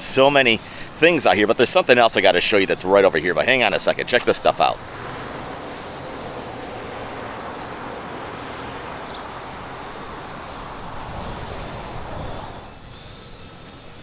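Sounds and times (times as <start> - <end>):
road traffic rushing: 0.0 - 14.0.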